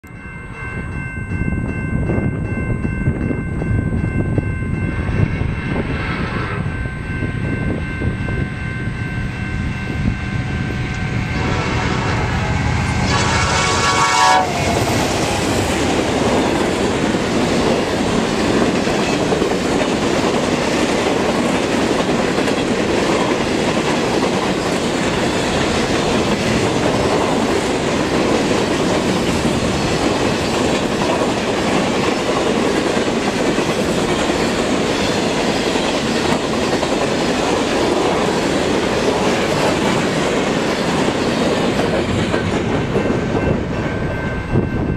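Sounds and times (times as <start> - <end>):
train wheels rushing on rails: 1.6 - 44.9.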